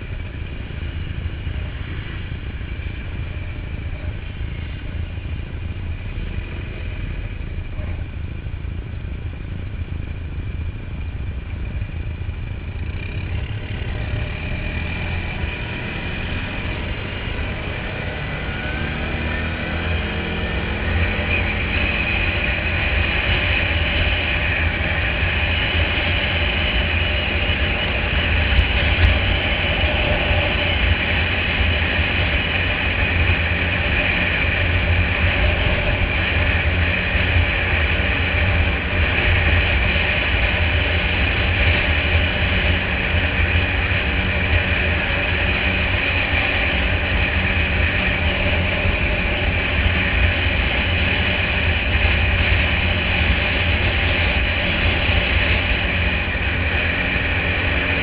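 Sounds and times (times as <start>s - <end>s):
quad bike engine running: 0.0s - 58.0s
wind rumble on microphone: 0.0s - 58.0s.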